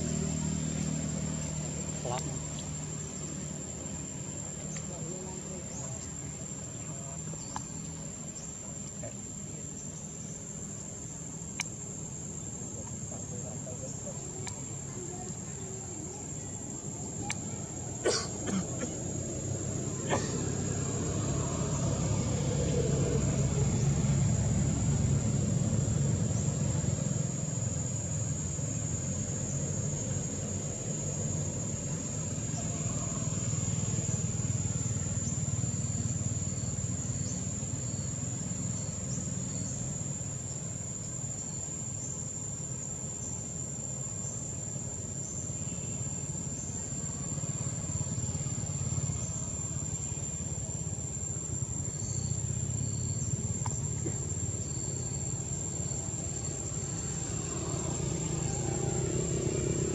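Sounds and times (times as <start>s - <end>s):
high-pitched insect drone: 0.0s - 59.9s
short insect chirps: 0.0s - 59.9s.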